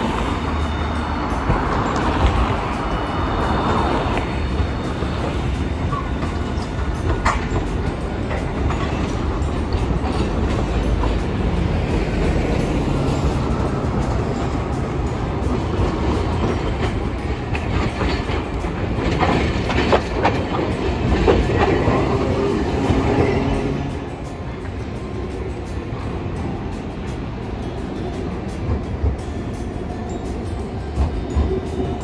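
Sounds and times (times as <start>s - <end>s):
low rumble of trams and traffic: 0.0s - 32.0s
tram wheels clattering over rail joints: 0.0s - 32.0s.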